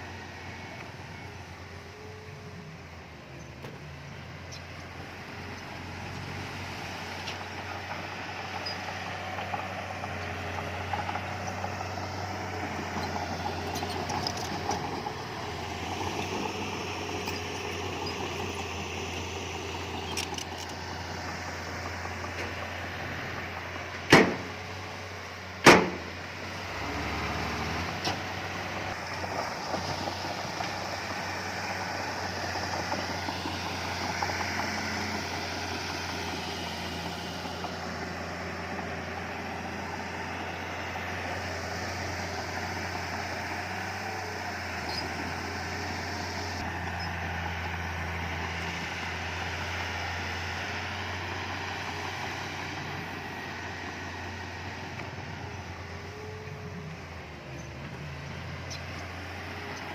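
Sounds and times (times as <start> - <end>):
earthmoving machinery engine hum: 0.0 - 59.9.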